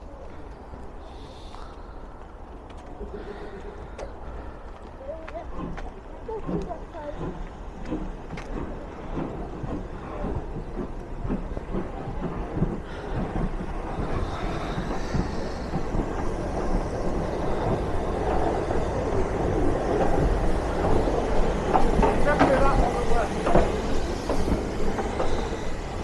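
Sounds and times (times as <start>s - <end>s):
train rumbling: 0.0s - 26.0s
train knocks: 3.6s - 26.0s.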